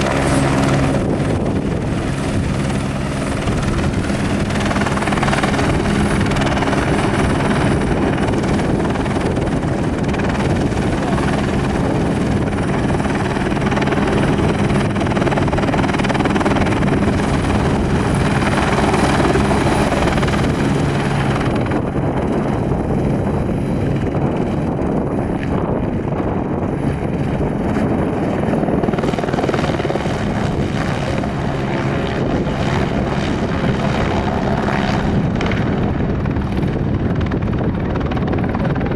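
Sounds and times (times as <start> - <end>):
helicopter rotor beating: 0.0 - 38.9
high turbine whine: 0.0 - 38.9.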